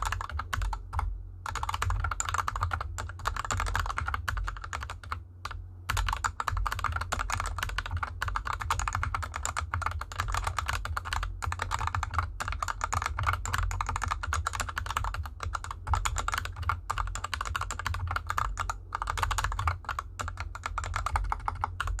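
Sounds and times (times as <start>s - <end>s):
fast typing on mechanical keyboard: 0.0s - 22.0s.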